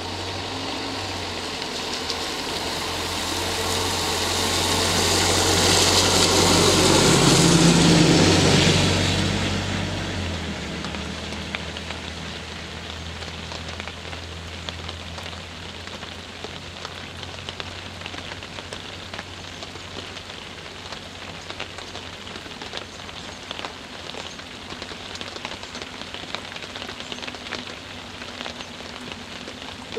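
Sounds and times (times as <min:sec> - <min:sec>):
low engine hum: 0:00.0 - 0:29.9
steady rain falling: 0:00.0 - 0:29.9.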